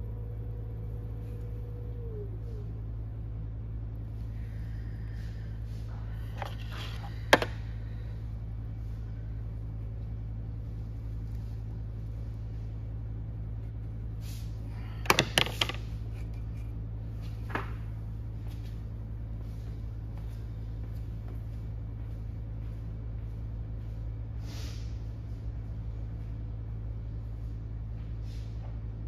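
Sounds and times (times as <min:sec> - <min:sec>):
electric pottery wheel humming: 0:00.0 - 0:29.0.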